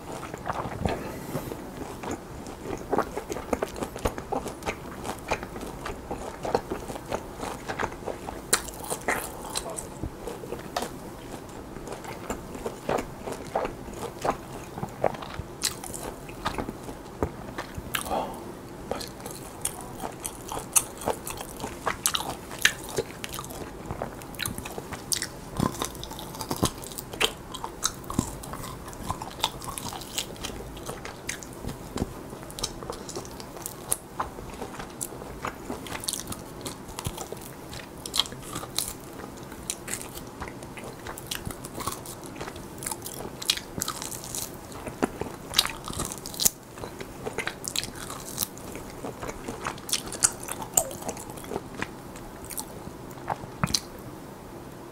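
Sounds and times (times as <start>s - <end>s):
chewing and biting meat: 0.0s - 53.9s.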